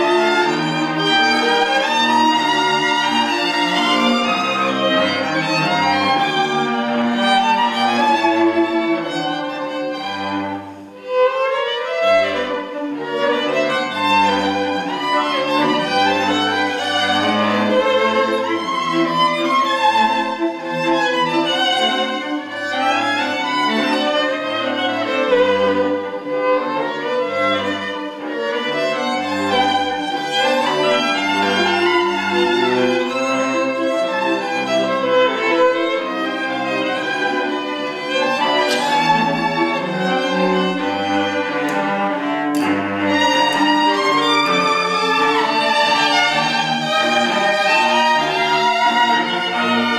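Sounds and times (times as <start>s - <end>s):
string quartet playing: 0.0s - 49.9s.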